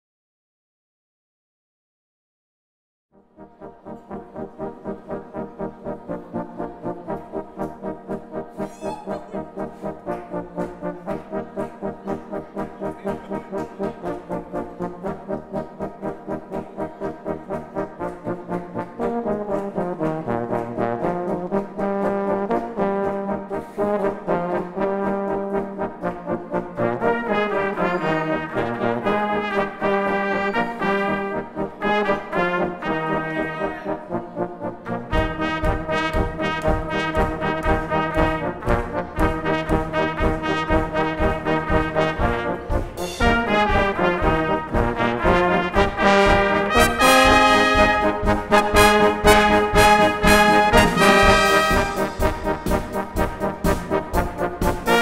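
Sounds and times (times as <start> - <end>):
brass band playing polka: 3.2 - 55.0.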